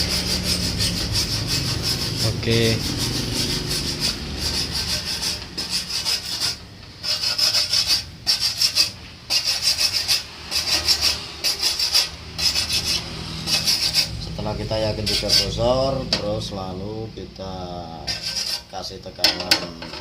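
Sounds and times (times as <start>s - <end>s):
hand tool scraping metal: 0.0s - 16.3s, 18.1s - 20.0s.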